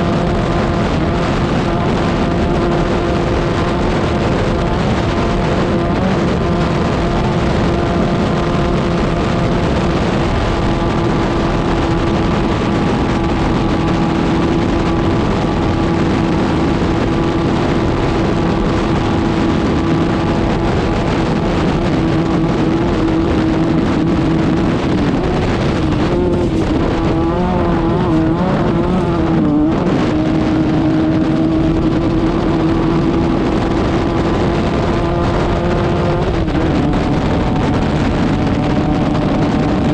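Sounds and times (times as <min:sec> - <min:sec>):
constant rush of noise: 0:00.0 - 0:39.9
race car engine running hard: 0:00.0 - 0:39.9.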